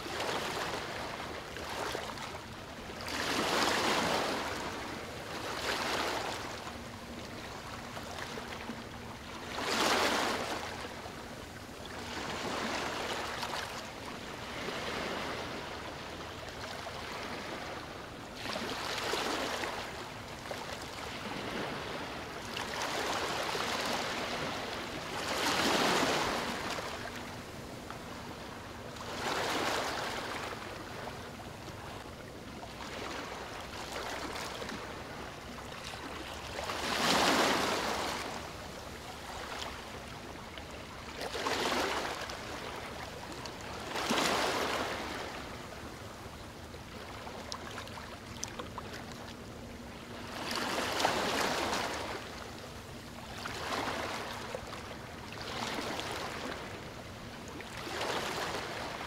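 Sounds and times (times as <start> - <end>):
waves washing up a beach: 0.0 - 31.3, 32.7 - 48.6, 49.6 - 59.0.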